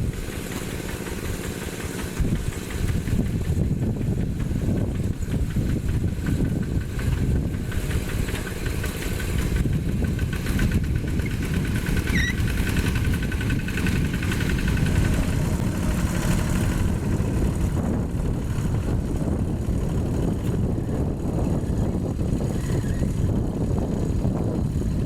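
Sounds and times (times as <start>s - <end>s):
single-cylinder diesel engine running: 0.0s - 25.0s.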